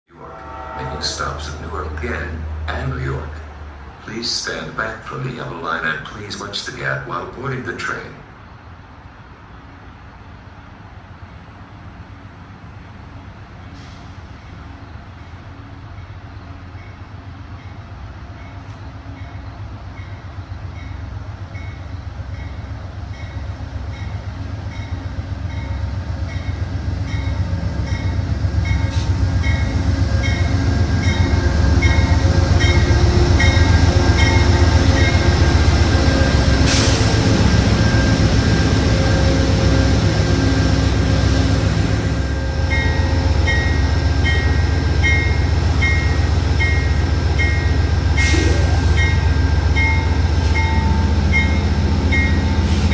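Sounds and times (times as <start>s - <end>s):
diesel locomotive drone: 0.0s - 52.9s
train rumble: 0.0s - 52.9s.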